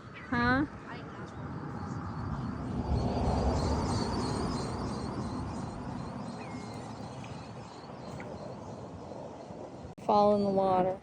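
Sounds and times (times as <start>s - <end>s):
faint high bird chirps: 0.0s - 11.0s
wind rumbling on microphone: 0.0s - 11.0s.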